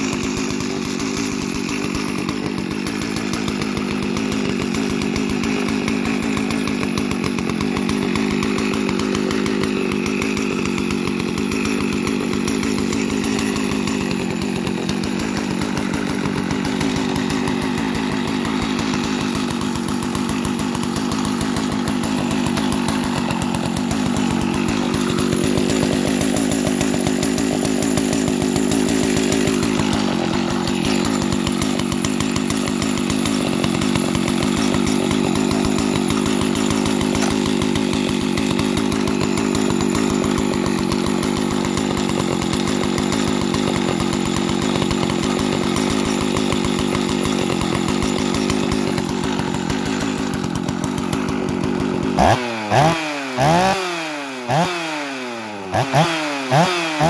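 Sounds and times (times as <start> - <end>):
chainsaw idling: 0.0 - 57.0.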